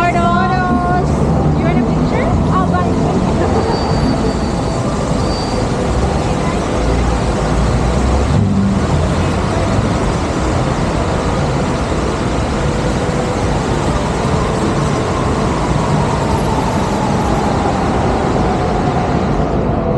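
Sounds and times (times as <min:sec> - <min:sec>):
fountain water jets rushing: 0:00.0 - 0:19.8.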